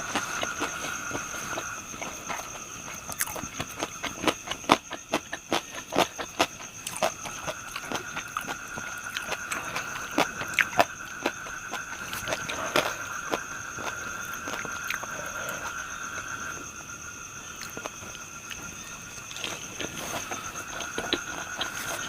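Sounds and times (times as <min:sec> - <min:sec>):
close-up crunchy chewing: 0:00.0 - 0:22.0.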